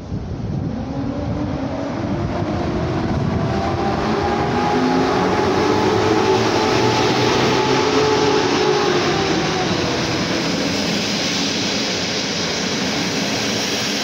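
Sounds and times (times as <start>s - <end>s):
locomotive hum: 0.0s - 14.0s
train wheels rumbling on rails: 0.0s - 14.0s.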